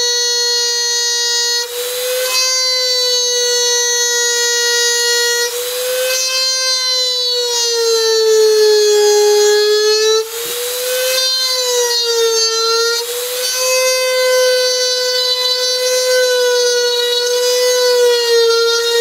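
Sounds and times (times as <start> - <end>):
rasping grinding: 0.0 - 19.0
rotary tool high whine: 0.0 - 19.0.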